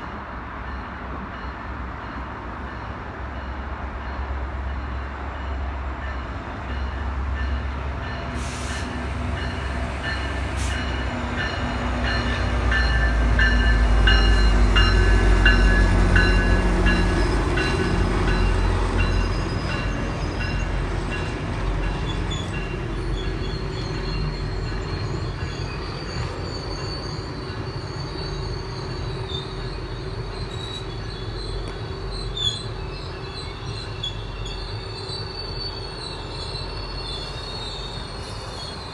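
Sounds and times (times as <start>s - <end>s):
train rumbling past: 0.0s - 38.9s
wheels squealing on rails: 6.8s - 38.9s.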